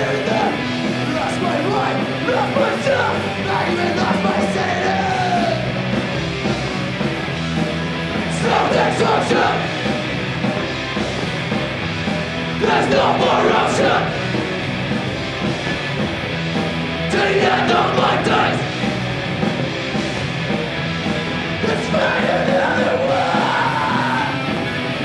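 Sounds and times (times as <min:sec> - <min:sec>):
punk rock band playing: 0:00.0 - 0:25.0
yelled vocals: 0:00.0 - 0:25.0.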